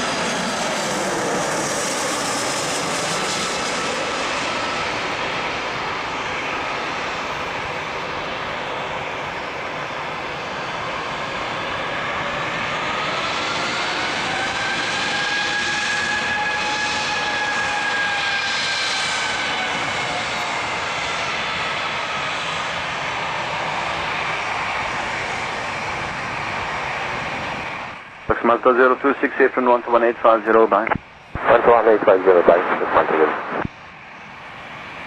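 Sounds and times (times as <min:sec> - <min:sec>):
jet engine whine: 0:00.0 - 0:35.0.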